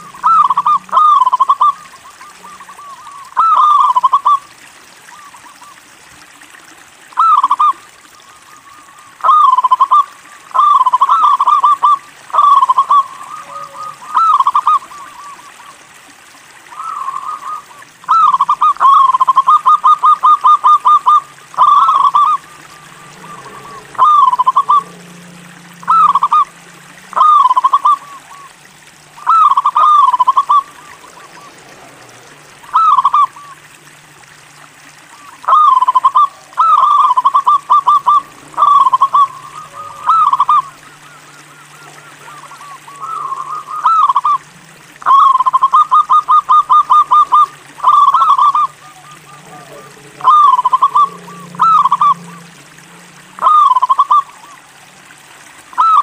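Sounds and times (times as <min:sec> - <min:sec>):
dove cooing: 0:00.0 - 0:04.5, 0:07.2 - 0:16.0, 0:16.7 - 0:33.7, 0:35.1 - 0:54.6.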